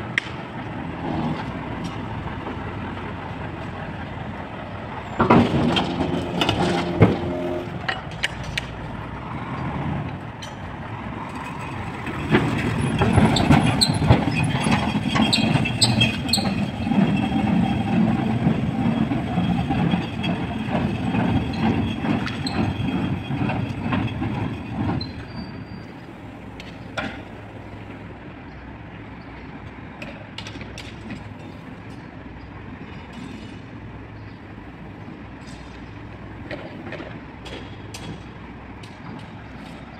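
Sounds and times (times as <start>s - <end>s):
garbage truck engine humming: 0.0s - 39.9s.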